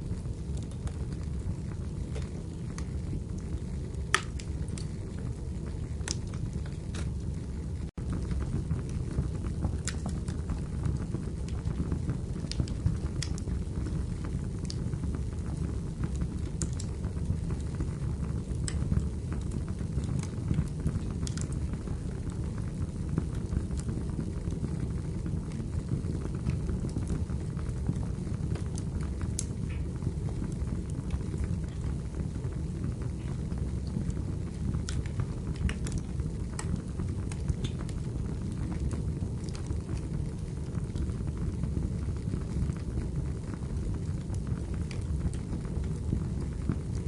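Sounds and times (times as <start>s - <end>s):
fire flames rumbling: 0.0s - 47.0s
firewood crackles and pops: 0.0s - 47.0s.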